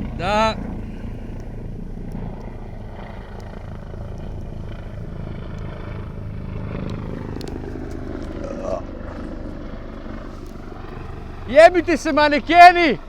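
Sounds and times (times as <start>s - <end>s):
helicopter rotor and turbine drone: 0.0s - 13.0s.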